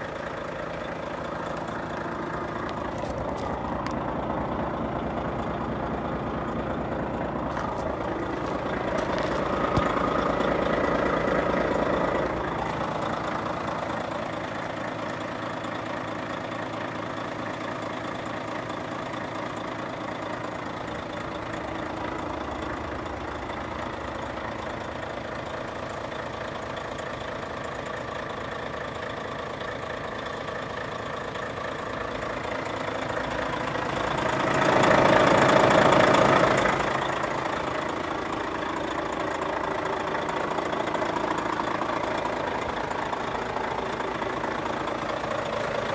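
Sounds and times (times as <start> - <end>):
truck diesel engine idling: 0.0 - 45.9.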